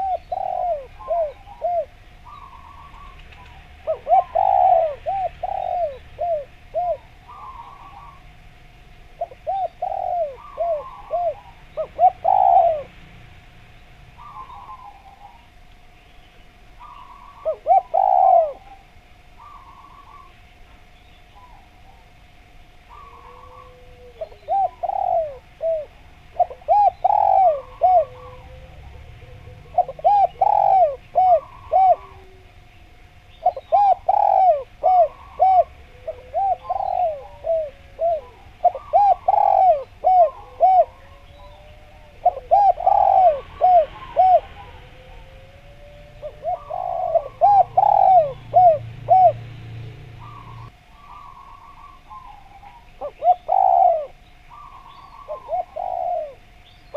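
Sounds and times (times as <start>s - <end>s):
dove cooing: 0.0s - 13.0s, 14.1s - 15.6s, 16.7s - 56.9s.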